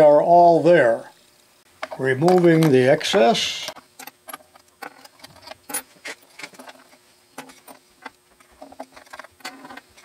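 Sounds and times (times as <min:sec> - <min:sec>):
small metal tools clinking: 0:01.8 - 0:10.0.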